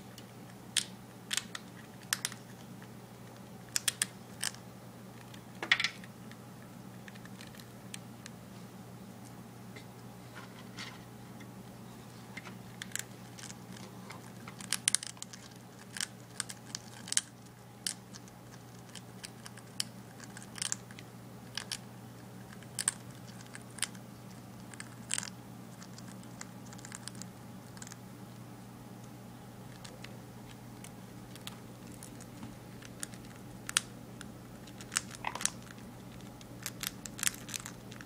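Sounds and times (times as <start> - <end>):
parrot crunching food: 0.0 - 38.0
steady low hum: 0.0 - 38.0.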